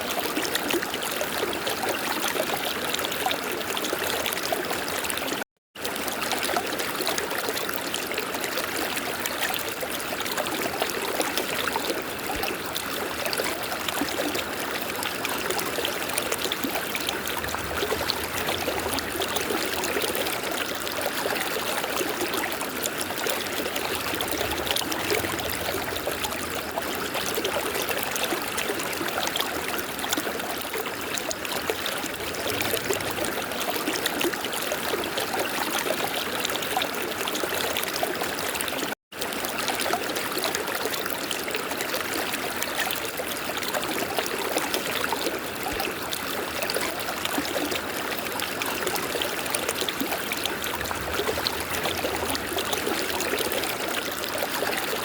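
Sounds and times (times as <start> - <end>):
river water flowing over stones: 5.8 - 55.0.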